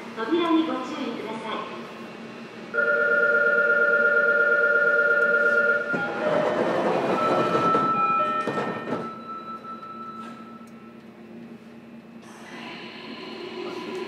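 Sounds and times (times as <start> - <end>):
train running noise with motor tones: 0.0 - 14.0.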